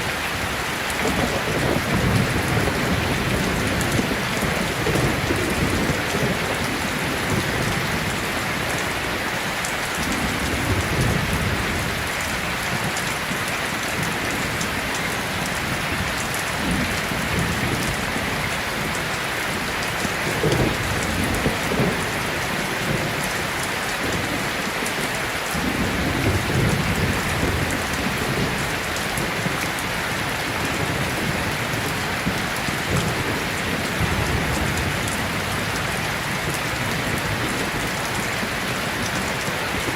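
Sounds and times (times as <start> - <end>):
heavy rain falling: 0.0 - 39.9
thunder rumbling: 0.1 - 13.4, 14.0 - 39.9.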